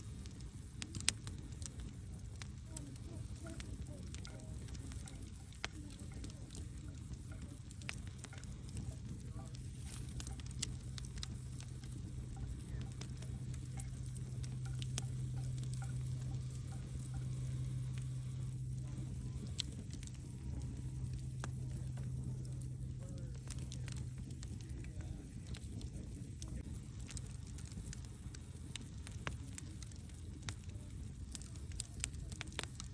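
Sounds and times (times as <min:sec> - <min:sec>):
fire crackling and popping: 0:00.0 - 0:32.9
low rumble of fire: 0:00.0 - 0:32.9.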